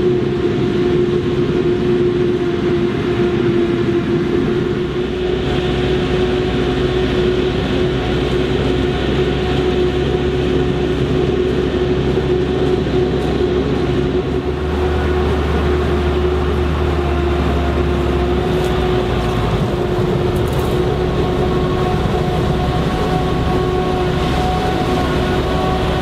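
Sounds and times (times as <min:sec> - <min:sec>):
constant humming tone: 0:00.0 - 0:26.0
forage harvester drone: 0:00.0 - 0:26.0
tractor engine rumble: 0:00.0 - 0:26.0.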